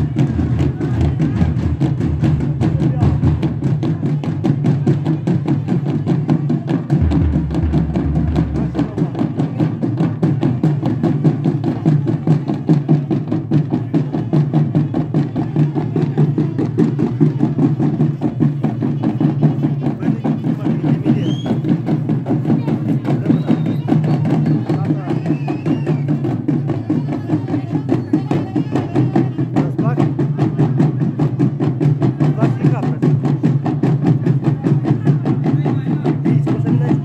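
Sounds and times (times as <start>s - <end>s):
frame drums beaten in rhythm: 0.0s - 37.0s.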